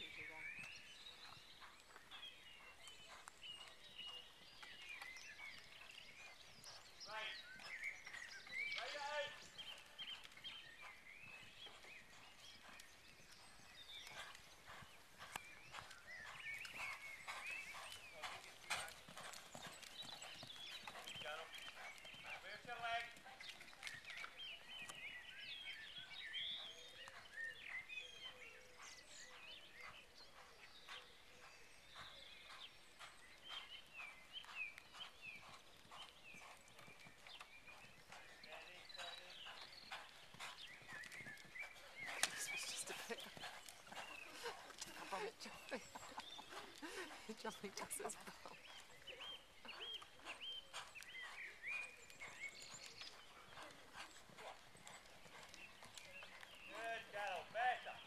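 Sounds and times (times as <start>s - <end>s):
birds chirping: 0.0s - 58.0s
pony hoofbeats cantering: 0.0s - 58.0s.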